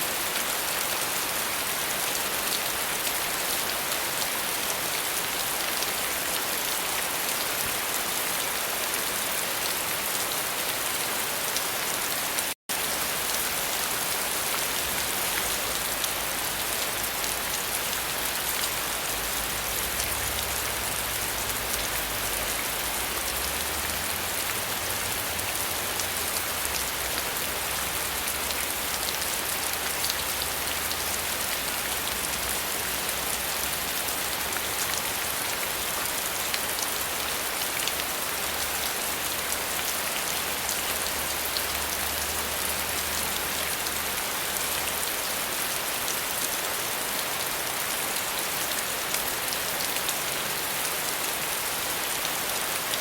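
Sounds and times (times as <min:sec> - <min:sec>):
rain pattering: 0:00.2 - 0:53.0.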